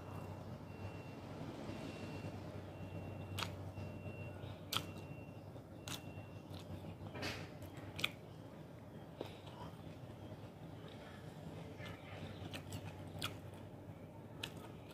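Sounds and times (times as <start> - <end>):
crunching and chewing vegetables: 2.9 - 14.9.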